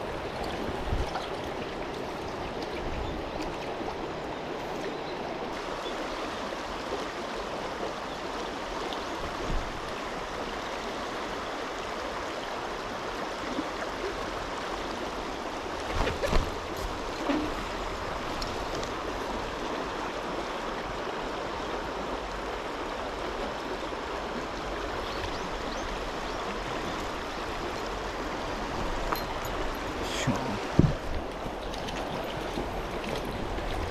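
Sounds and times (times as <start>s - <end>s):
river rushing over rocks: 5.2s - 33.9s.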